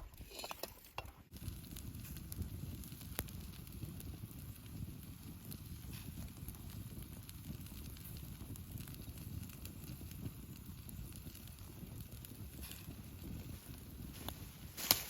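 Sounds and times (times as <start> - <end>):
campfire crackling and popping: 0.1 - 15.0
wind on microphone: 1.4 - 15.0.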